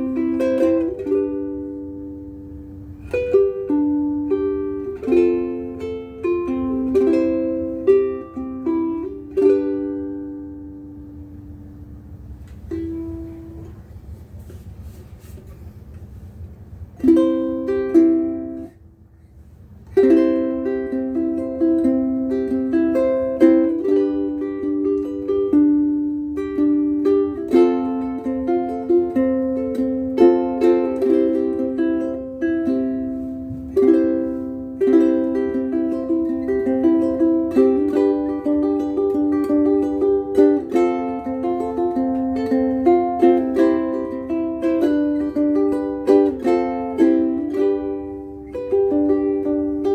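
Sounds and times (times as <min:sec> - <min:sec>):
ukulele melody and chords: 0:00.0 - 0:49.9.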